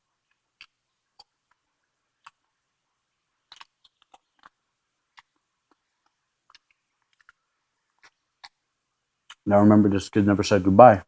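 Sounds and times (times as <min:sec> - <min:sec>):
person chewing food: 0:00.1 - 0:09.4.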